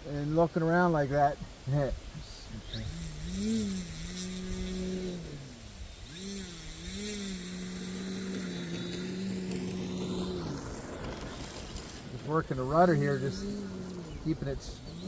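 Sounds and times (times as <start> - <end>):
model airplane electric motor: 2.4 - 15.0.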